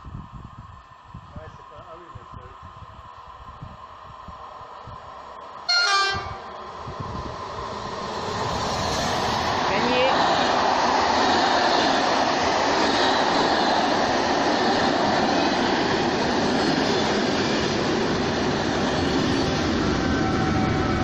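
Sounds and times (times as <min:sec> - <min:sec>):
electric locomotive passing: 0:00.0 - 0:21.0
train wheels on rails: 0:00.0 - 0:21.0.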